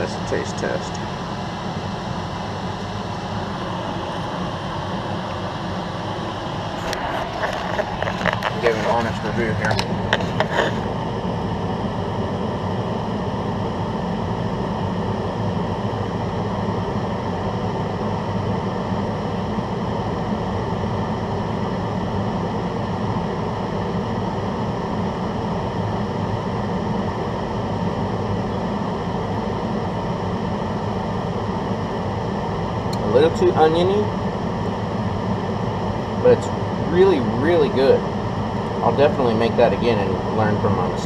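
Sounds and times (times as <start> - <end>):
range hood fan whirring: 0.0 - 41.0.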